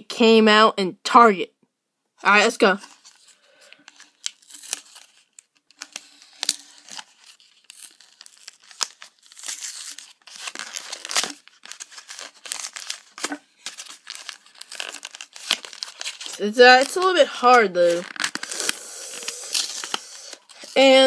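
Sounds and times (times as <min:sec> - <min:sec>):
foil wrapper tearing and crinkling: 0:02.8 - 0:21.0.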